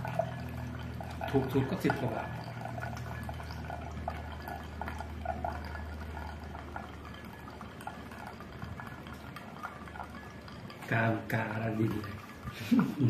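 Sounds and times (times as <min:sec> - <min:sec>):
coffee trickling into glass server: 0:00.0 - 0:13.0
hot water pouring onto coffee grounds: 0:00.0 - 0:13.0
steady low hum: 0:00.0 - 0:13.0.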